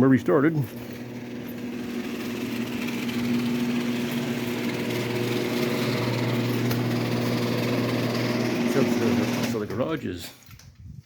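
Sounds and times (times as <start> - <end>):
small engine running: 0.6 - 9.8.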